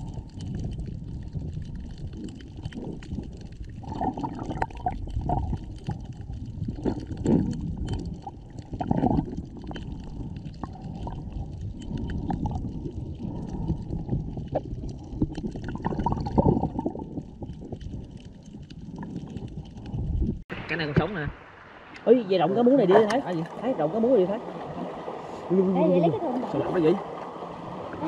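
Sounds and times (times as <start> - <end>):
water sloshing underwater: 0.0 - 28.0.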